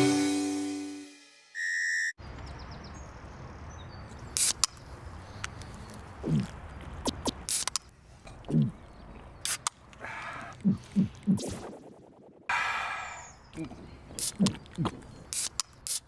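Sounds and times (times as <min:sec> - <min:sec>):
outdoor background noise: 0:02.2 - 0:16.0.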